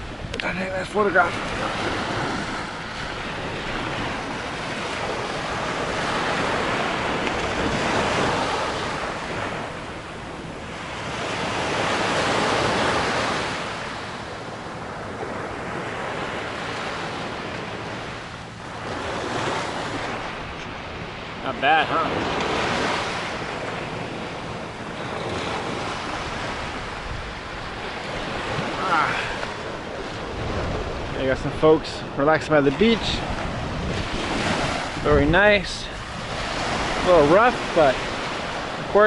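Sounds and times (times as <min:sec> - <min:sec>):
waves breaking on shore: 0:00.0 - 0:39.0.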